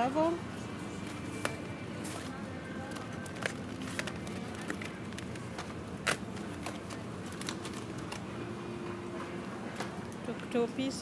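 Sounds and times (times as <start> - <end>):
supermarket hubbub: 0.0 - 11.0.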